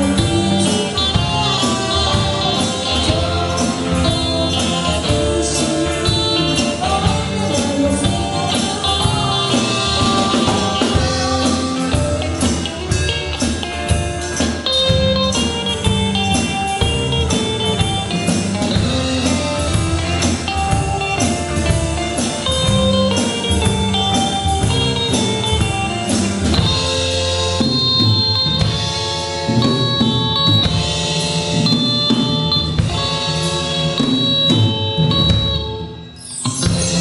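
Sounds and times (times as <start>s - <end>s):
drum kit beat: 0.0s - 37.0s
rock band playing: 0.0s - 37.0s.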